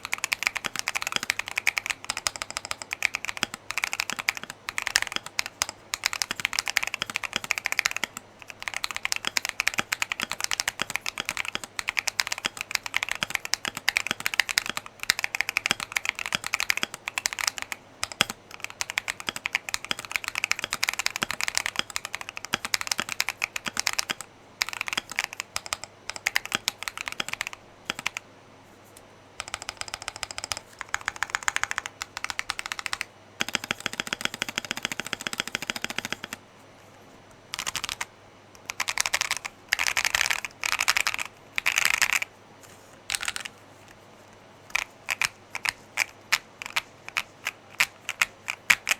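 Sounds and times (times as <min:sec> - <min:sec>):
mechanical keyboard typing: 0:00.0 - 0:28.2, 0:29.4 - 0:36.4, 0:37.5 - 0:43.6, 0:44.6 - 0:48.9.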